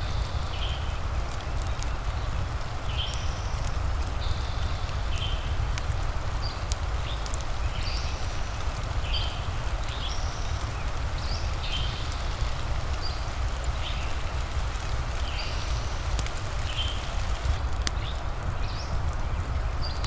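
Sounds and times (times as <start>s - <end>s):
fire crackles: 0.0s - 20.0s
rain hiss and rumble: 0.0s - 20.0s.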